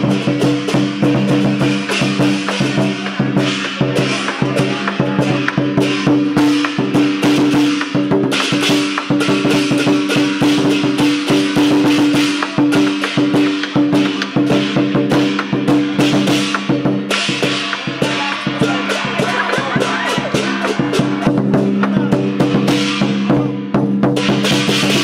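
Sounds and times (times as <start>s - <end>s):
cymbals crashing: 0.0s - 25.0s
drum beating: 0.0s - 25.0s.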